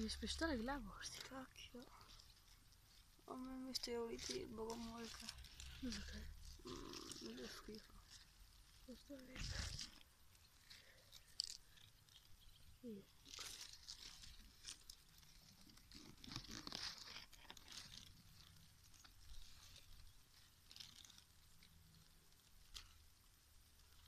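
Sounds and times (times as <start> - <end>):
leaves and grass rustling on phone: 0.0 - 24.0.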